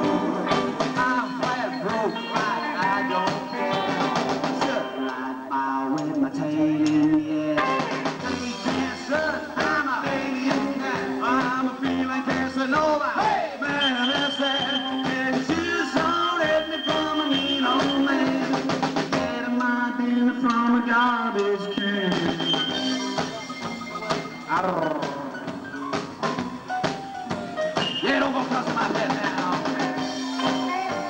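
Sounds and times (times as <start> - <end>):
rockabilly band playing: 0.0 - 31.0.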